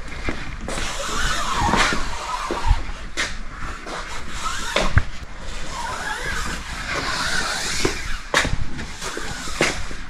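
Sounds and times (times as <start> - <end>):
fingers rubbing vinyl film: 0.0 - 10.0.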